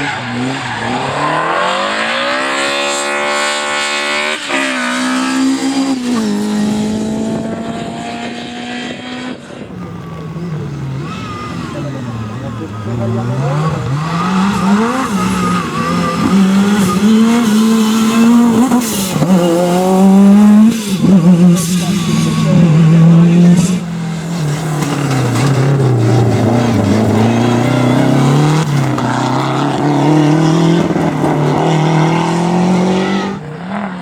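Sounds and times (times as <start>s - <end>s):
rally car engine revving: 0.0s - 34.0s.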